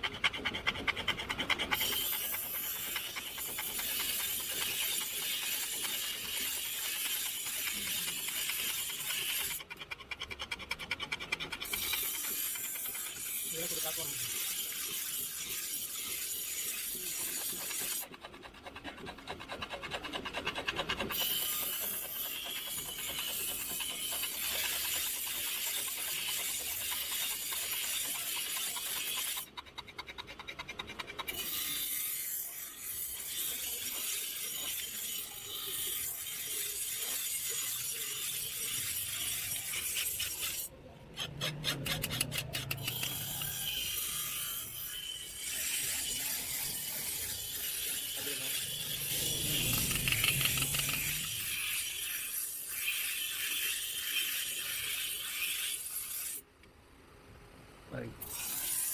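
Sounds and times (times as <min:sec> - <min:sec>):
file rasping on sickle blade: 0:00.0 - 0:56.5, 0:58.2 - 0:58.9.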